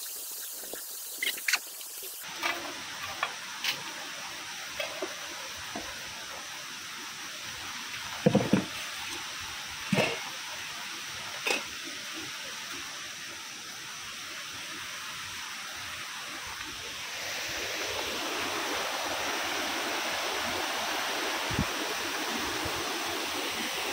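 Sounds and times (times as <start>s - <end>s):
water rushing over rocks: 0.0s - 23.9s.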